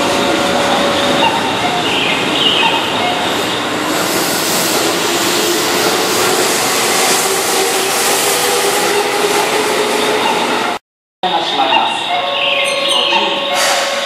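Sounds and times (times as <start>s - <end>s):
train wheels rumbling on rail: 0.0s - 10.8s, 13.4s - 14.0s.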